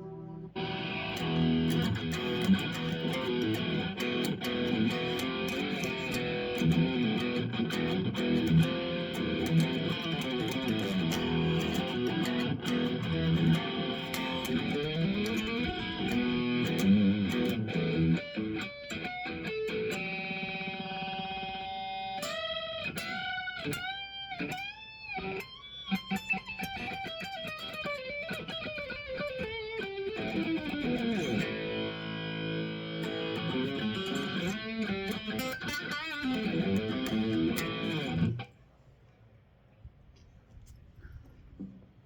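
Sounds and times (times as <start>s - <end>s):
electric guitar playing: 0.0s - 38.5s.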